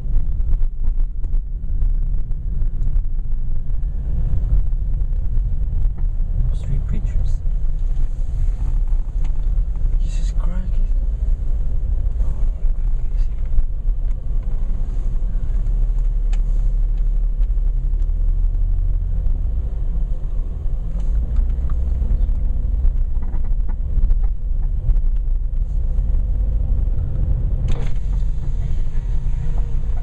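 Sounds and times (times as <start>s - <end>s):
car engine rumble: 0.0s - 30.0s
road noise: 0.0s - 30.0s.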